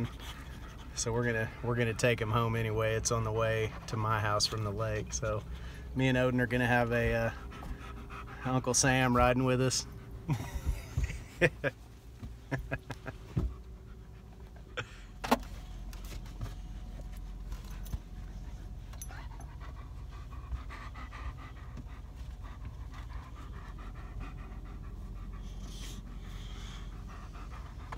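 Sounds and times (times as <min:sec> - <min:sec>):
dogs panting: 0:00.0 - 0:15.0, 0:15.7 - 0:27.9
low vehicle rumble: 0:00.0 - 0:27.9.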